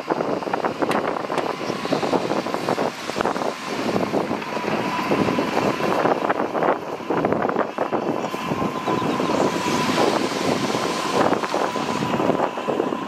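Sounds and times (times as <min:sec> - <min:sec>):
heavy machinery engine running: 0:00.0 - 0:13.0
thin steady whine: 0:00.0 - 0:13.0.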